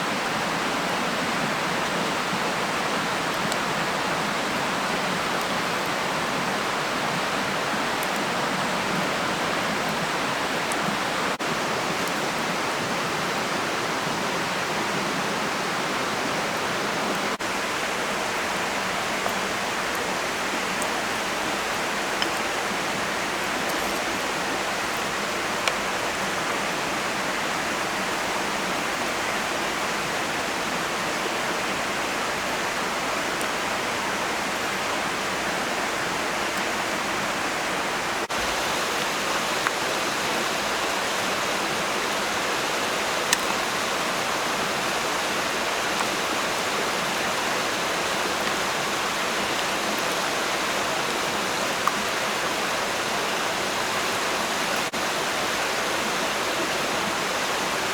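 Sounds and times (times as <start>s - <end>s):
running water rushing: 0.0s - 57.9s.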